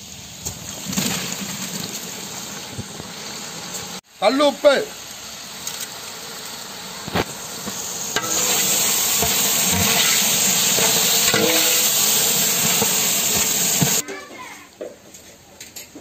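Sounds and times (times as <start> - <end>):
onions and tomatoes sizzling: 0.0 - 14.6.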